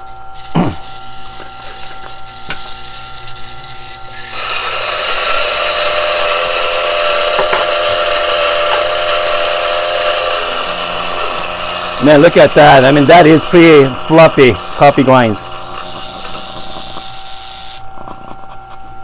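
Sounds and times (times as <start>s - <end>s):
coffee beans grinding: 0.0s - 17.9s
grinder motor humming: 0.0s - 18.7s.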